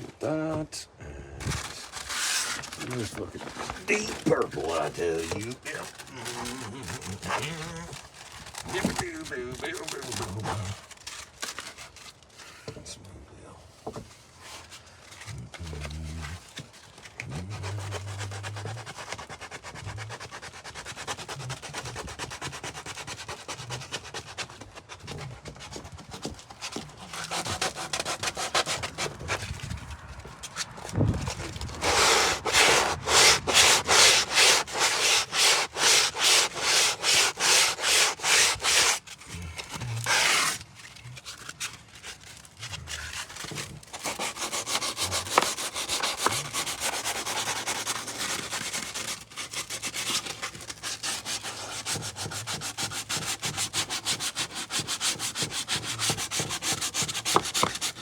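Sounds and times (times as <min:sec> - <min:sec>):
hand sanding wood: 0:01.5 - 0:12.1, 0:16.5 - 0:40.6, 0:43.1 - 0:58.0.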